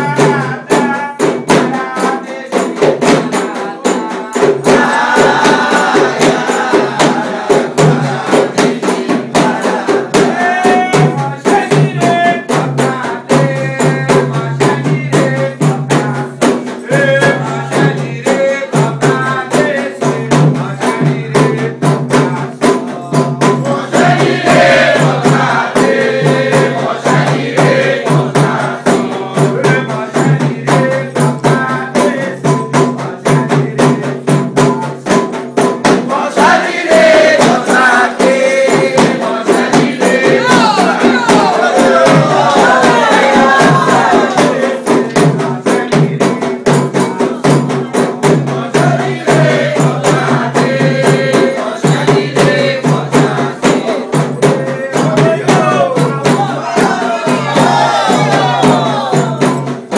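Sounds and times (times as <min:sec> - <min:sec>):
fast percussion strikes: 0:00.0 - 0:59.9
people singing: 0:00.0 - 0:59.9.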